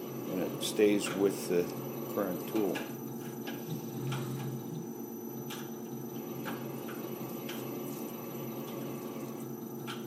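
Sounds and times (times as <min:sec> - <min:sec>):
lathe motor hum with whine: 0:00.0 - 0:10.0.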